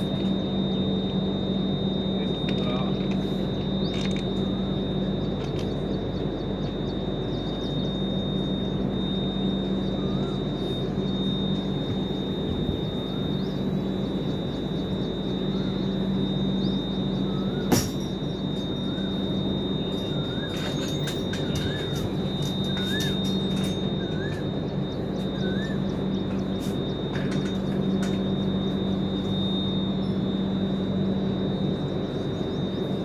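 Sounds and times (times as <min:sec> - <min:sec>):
halted train hum: 0:00.0 - 0:33.0
high-pitched whine: 0:00.0 - 0:33.0.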